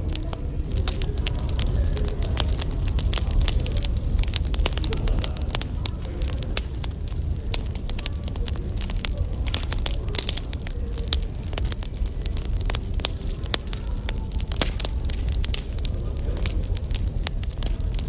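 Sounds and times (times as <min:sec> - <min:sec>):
low steady rumble: 0:00.0 - 0:18.0
wood fire crackling and popping: 0:00.0 - 0:18.0.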